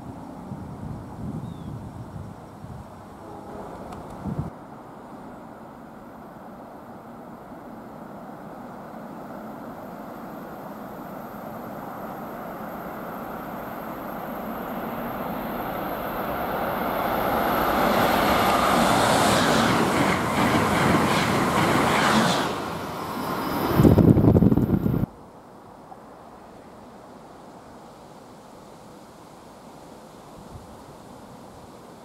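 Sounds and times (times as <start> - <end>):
passenger train passing: 2.4 - 30.4.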